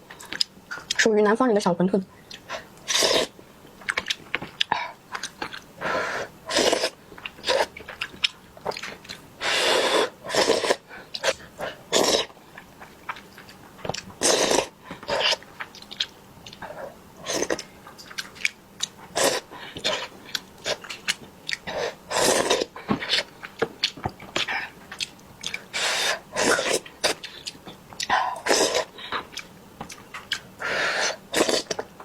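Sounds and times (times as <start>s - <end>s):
chewing and mouth noises: 0.1s - 1.1s, 2.2s - 32.0s.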